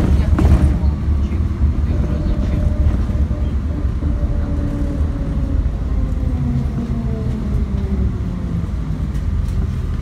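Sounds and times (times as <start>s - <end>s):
vehicle rumble from inside: 0.0s - 10.0s.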